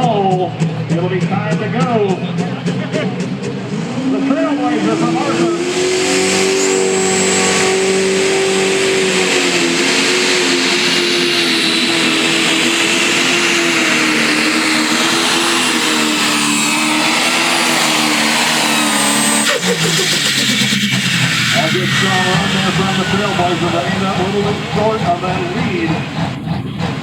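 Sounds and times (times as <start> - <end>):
diesel engine running flat out: 0.0 - 27.0
high turbo whistle: 3.6 - 27.0.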